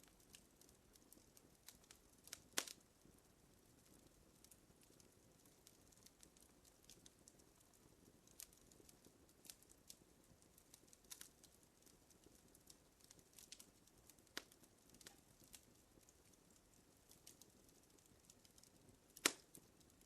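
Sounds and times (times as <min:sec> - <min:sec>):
faint wood fire crackling: 0:00.0 - 0:20.0.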